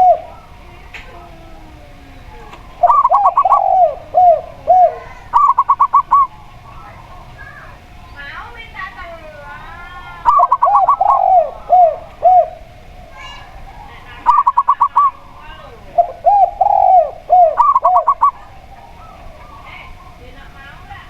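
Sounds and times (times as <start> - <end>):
dove clipped notes: 0.0 - 21.0
dove cooing: 0.0 - 21.0.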